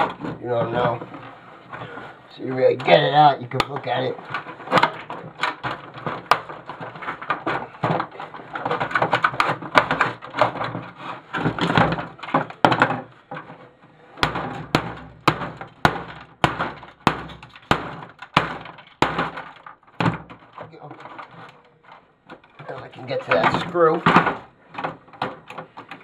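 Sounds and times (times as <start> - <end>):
plastic parts pried apart: 2.7 - 26.0.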